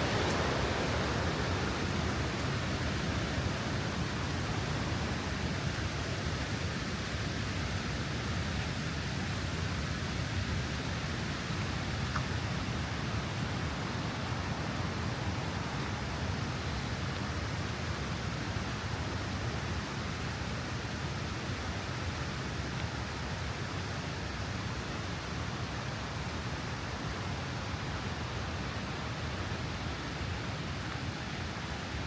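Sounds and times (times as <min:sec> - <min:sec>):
flowing water: 0:00.0 - 0:32.0
rain: 0:00.0 - 0:32.0.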